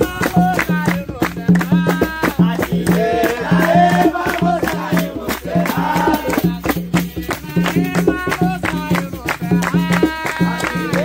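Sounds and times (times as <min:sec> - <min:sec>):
group singing: 0:00.0 - 0:11.0
hand drum beat: 0:00.0 - 0:11.0
rhythmic hand clapping: 0:00.0 - 0:11.0.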